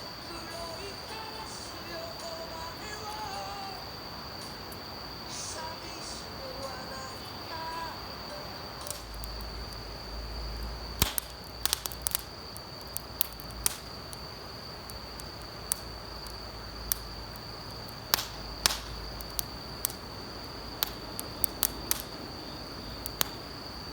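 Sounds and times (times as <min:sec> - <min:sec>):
insect trill: 0:00.0 - 0:23.9
wood fire crackling and popping: 0:00.1 - 0:23.9.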